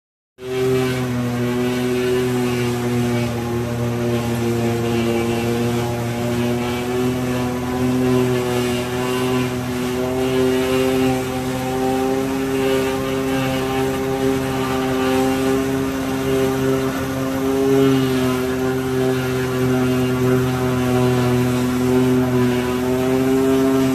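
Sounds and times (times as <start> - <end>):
forage chopper engine drone: 0.4 - 23.9.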